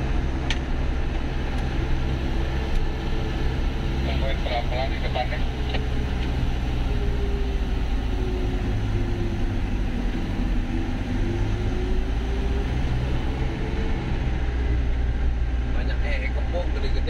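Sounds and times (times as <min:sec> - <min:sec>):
faint engine whine: 0:00.0 - 0:17.0
vehicle engine and road rumble: 0:00.0 - 0:17.0.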